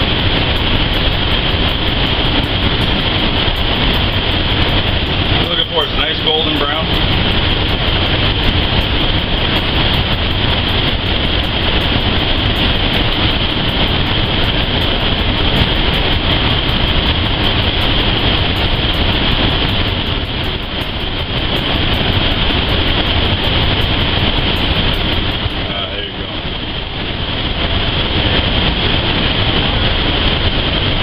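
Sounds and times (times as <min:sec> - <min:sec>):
buns searing in hot oil: 0:00.0 - 0:31.0
low rumble: 0:00.0 - 0:31.0.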